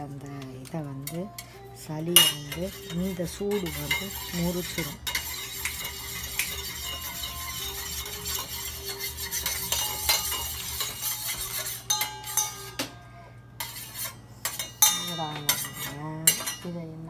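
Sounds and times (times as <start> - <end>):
metal utensil clinking in pan: 2.2 - 13.0, 13.6 - 16.8.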